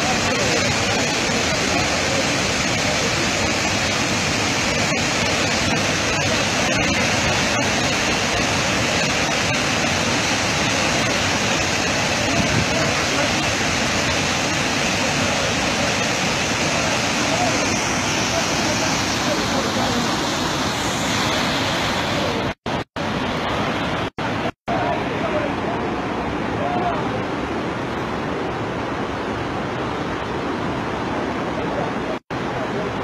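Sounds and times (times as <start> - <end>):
water rushing over waterfall: 0.0 - 33.0.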